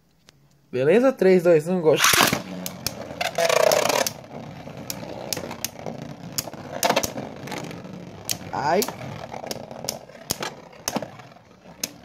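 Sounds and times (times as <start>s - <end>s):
spinning tops whirring and scraping: 1.9s - 12.0s.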